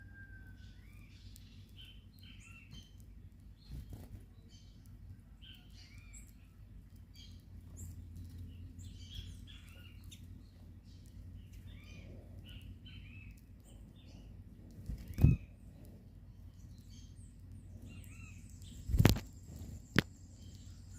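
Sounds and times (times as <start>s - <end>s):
low background rumble: 0.0s - 20.9s
small birds chirping: 0.0s - 20.9s.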